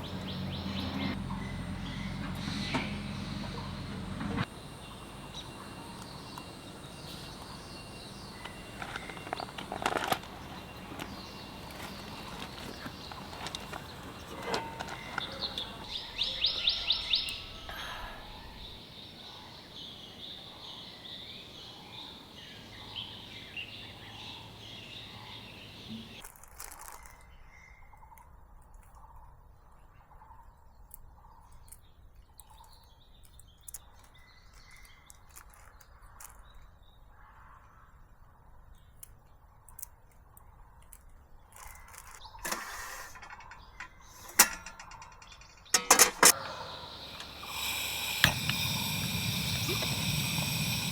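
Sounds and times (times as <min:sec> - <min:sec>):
small birds chirping: 0:04.4 - 0:37.2, 0:37.8 - 0:50.9.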